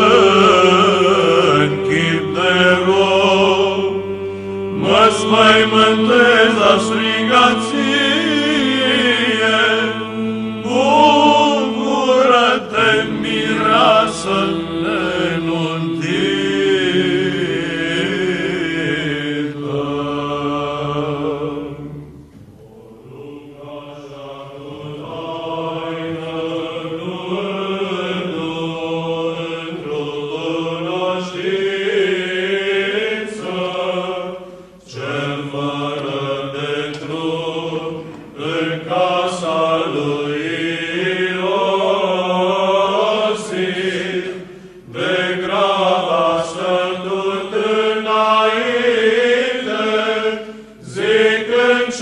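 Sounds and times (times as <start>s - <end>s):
chant melody sung: 0.0s - 52.0s
held vocal drone: 0.0s - 52.0s.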